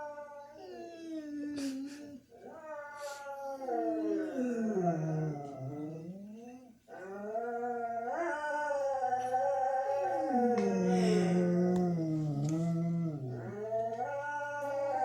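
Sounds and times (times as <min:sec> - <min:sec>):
dog howling: 0:02.4 - 0:15.0.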